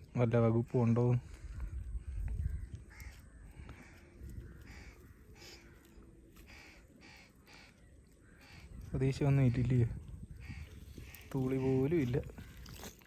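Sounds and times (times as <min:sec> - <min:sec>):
crows cawing faintly: 0:00.7 - 0:13.0.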